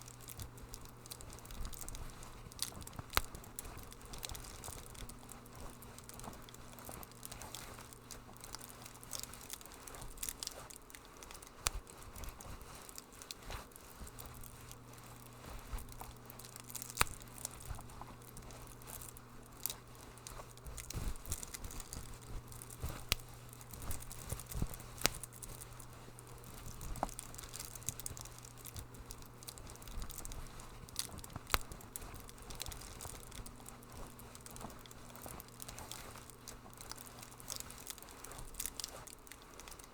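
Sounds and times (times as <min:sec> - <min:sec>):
low steady hum: 0:00.0 - 0:39.9
wood fire crackling and popping: 0:00.0 - 0:39.9.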